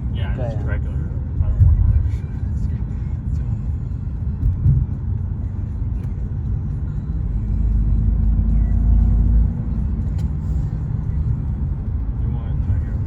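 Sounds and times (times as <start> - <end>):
car engine: 0.0 - 13.0
road rumble inside car: 0.0 - 13.0.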